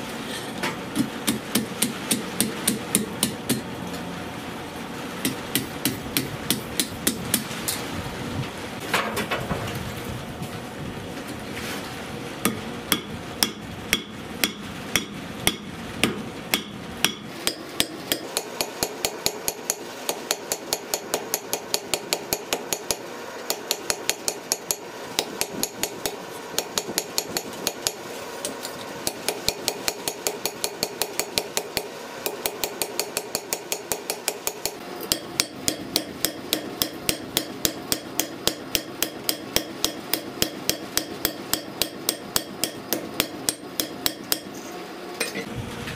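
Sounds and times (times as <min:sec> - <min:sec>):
hammer striking steel on anvil: 0:00.9 - 0:03.6, 0:05.2 - 0:07.5, 0:12.4 - 0:45.5.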